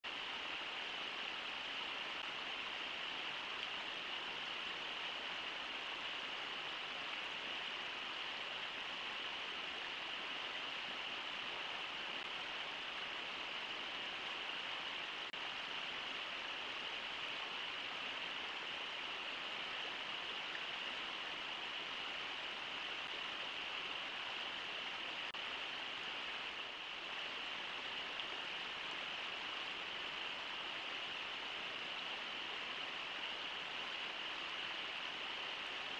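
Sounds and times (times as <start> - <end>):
river water rushing over rocks: 0.1 - 35.9.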